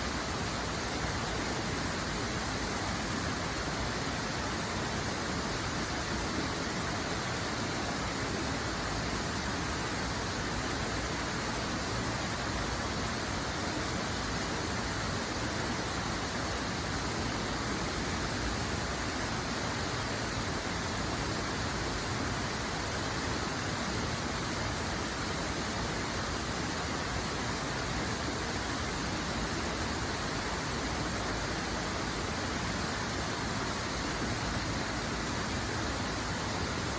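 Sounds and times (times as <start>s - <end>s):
rushing water: 0.0s - 36.9s.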